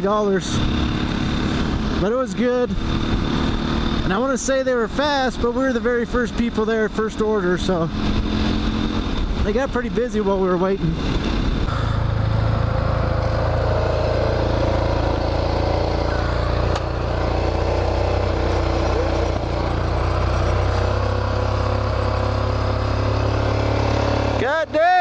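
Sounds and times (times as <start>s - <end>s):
dirt bike engines idling: 0.0s - 25.0s.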